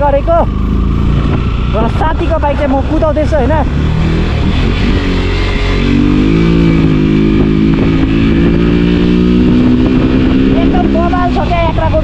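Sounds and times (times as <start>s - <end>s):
motorcycle engine accelerating: 0.0s - 12.0s
wind rumble on microphone: 0.6s - 12.0s.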